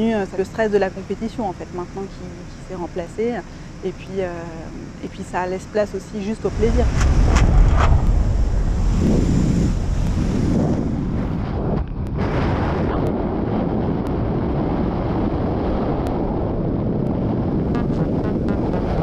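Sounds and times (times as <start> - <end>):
aircraft engine roar: 0.0 - 19.0
wind rushing roar: 0.0 - 19.0.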